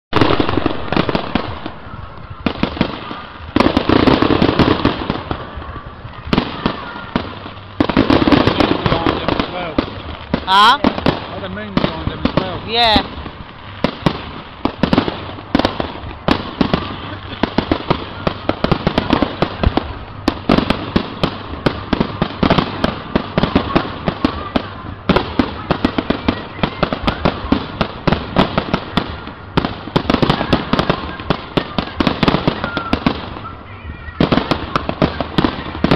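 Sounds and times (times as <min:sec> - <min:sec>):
fireworks bangs and crackles: 0:00.1 - 0:35.9.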